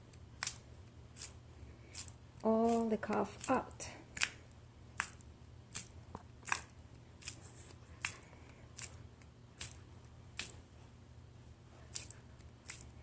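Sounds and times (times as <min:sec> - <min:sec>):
sticky skin peeling snaps: 0:00.1 - 0:07.4, 0:08.0 - 0:10.6, 0:11.9 - 0:13.0.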